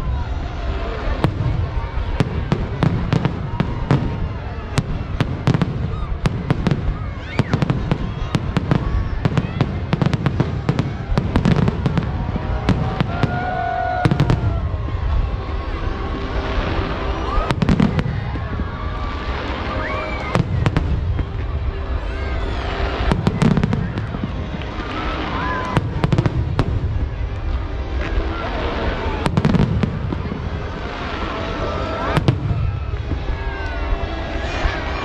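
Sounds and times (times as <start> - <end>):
fireworks bursting with sharp bangs: 0.1 - 35.0.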